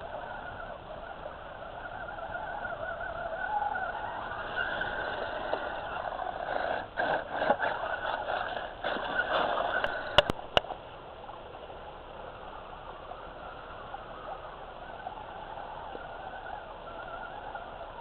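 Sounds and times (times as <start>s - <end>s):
small electric motors whining: 0.0s - 10.6s, 12.3s - 18.0s.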